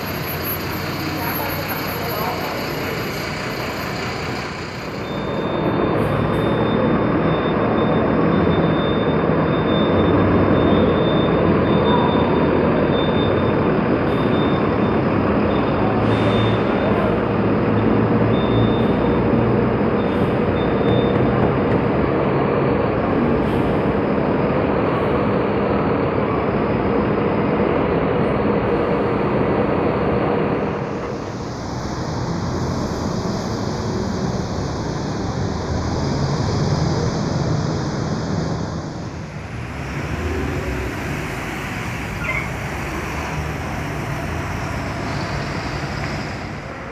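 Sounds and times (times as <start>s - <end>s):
bus engine drone: 0.0s - 46.9s
traffic passing on wet street: 0.0s - 46.9s.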